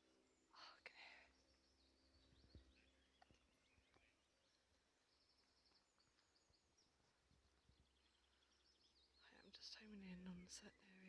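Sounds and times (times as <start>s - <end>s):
distant birdsong twittering: 0.0s - 11.0s.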